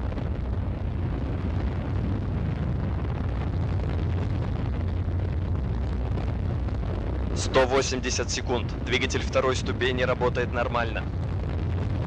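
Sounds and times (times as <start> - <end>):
rocket engine rumble: 0.0 - 12.0.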